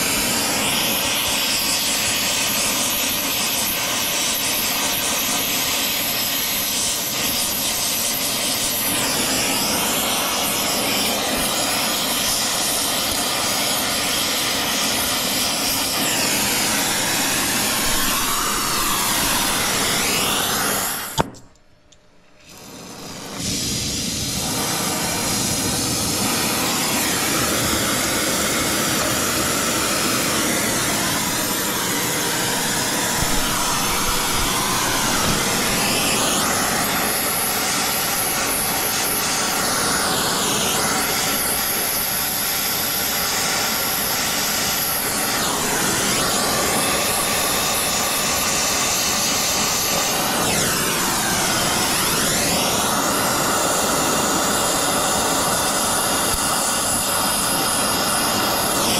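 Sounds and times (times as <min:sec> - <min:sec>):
torch flame hissing: 0:00.0 - 0:21.4, 0:22.4 - 0:58.9.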